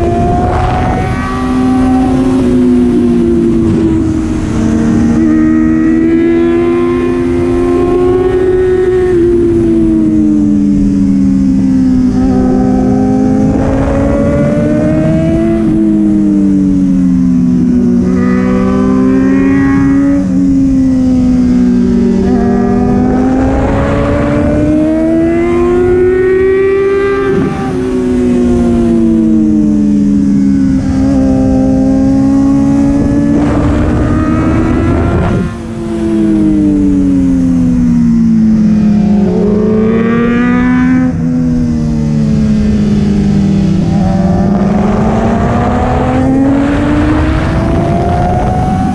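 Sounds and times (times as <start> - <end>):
motorcycle engine revving: 0.0 - 48.9
wind rush on microphone: 0.0 - 48.9.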